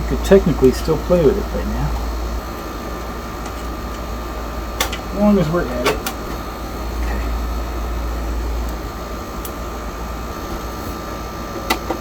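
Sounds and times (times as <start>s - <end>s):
high-pitched hum: 0.0s - 12.0s.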